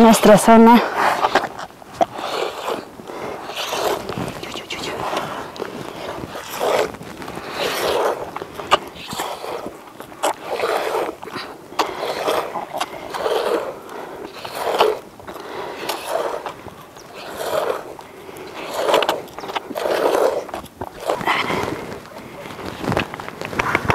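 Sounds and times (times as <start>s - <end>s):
milk squirting into container: 1.1s - 23.9s.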